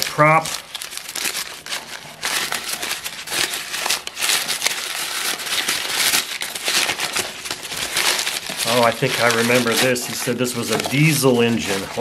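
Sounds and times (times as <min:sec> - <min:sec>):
packing paper crinkling: 0:00.0 - 0:12.0.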